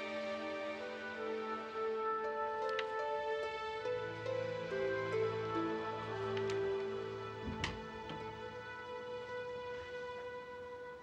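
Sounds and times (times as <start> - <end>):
soft slow sustained music: 0.0 - 11.0.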